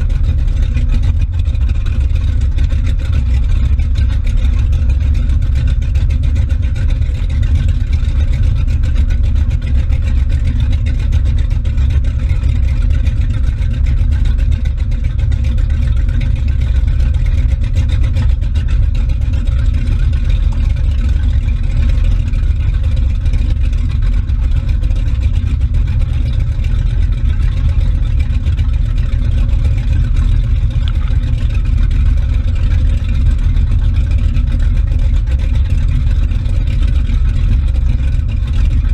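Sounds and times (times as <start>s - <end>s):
motorboat engine rumbling: 0.0s - 38.9s
rushing churning wake: 0.0s - 38.9s.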